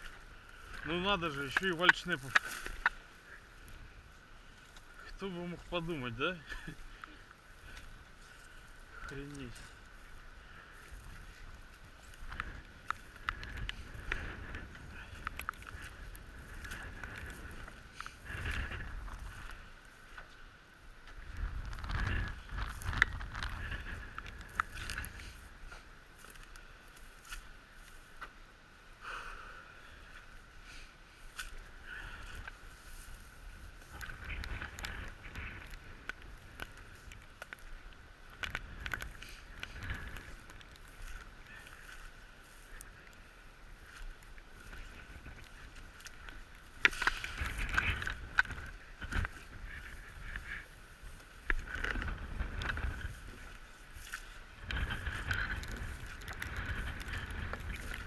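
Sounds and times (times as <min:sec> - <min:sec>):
wind rumble on microphone: 0:00.0 - 0:25.8, 0:31.4 - 0:58.0.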